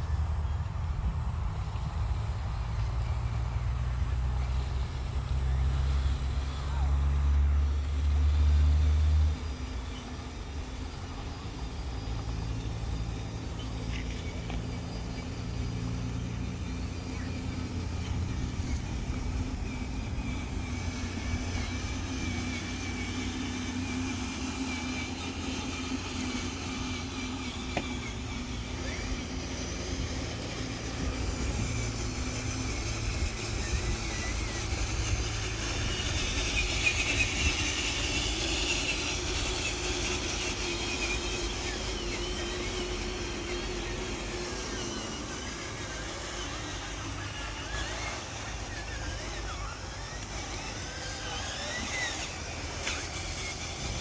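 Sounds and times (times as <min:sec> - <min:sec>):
toy truck motor whine: 0:00.0 - 0:54.0.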